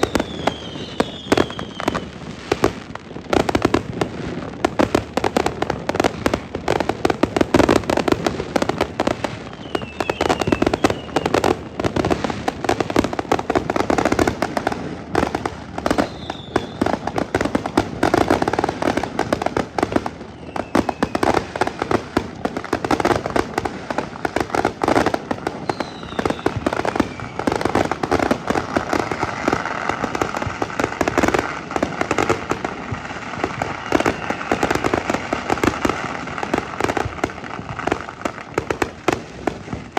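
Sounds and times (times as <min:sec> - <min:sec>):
falling firework whistles: 0:00.0 - 0:06.8, 0:07.6 - 0:39.9
fireworks bangs and crackling: 0:00.0 - 0:39.9.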